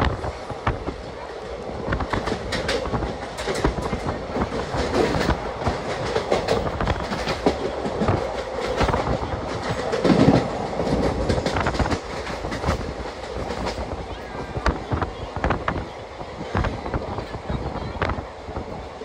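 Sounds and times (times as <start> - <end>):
train wheels rumbling on rails: 0.0 - 19.0
wheels knocking on rail joints: 1.9 - 17.4.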